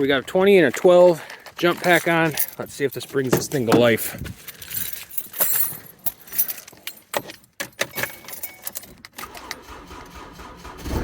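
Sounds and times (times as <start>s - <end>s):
car keys jangling: 0.2s - 9.8s
keys clicking in ignition: 0.2s - 10.9s.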